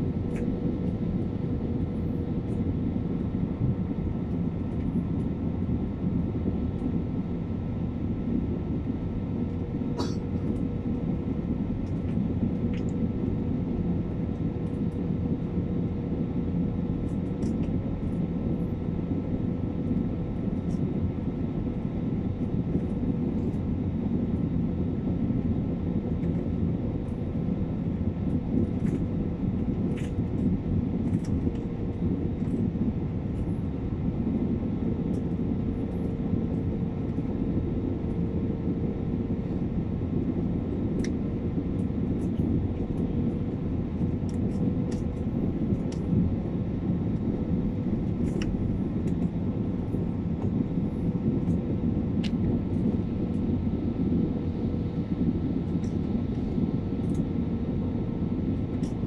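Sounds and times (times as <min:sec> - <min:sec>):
faint steady hum: 0:00.0 - 0:59.0
jet engine cabin roar: 0:00.0 - 0:59.0.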